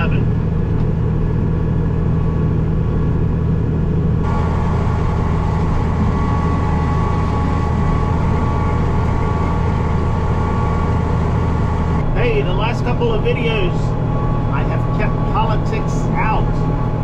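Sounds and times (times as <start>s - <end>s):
high-pitched whine: 0.0s - 17.0s
tractor diesel engine running: 0.0s - 17.0s.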